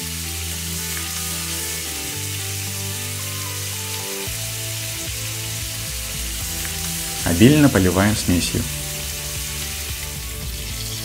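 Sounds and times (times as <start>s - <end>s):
background music: 0.0s - 11.0s
steaks sizzling in a pan: 0.0s - 11.0s.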